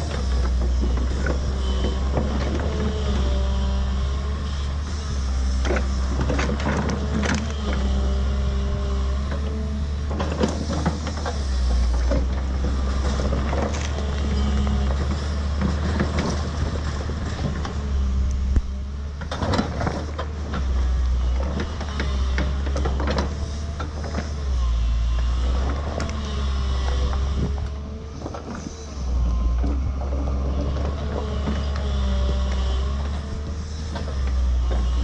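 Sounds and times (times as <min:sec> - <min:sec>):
excavator diesel engine running: 0:00.0 - 0:35.0
hydraulics working: 0:00.0 - 0:35.0.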